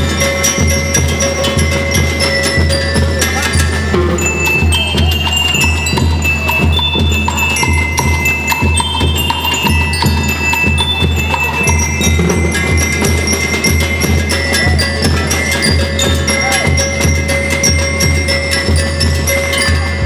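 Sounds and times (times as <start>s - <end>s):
bass drum beat: 0.0s - 20.0s
bell lyres playing melody: 0.0s - 20.0s
snare drums: 0.0s - 20.0s.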